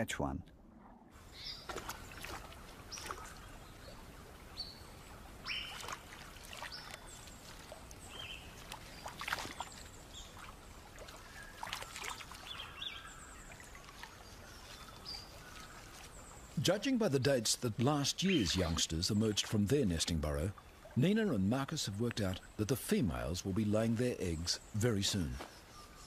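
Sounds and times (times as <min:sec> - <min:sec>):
light water trickle: 0:01.2 - 0:24.0
water splashing: 0:01.2 - 0:25.2.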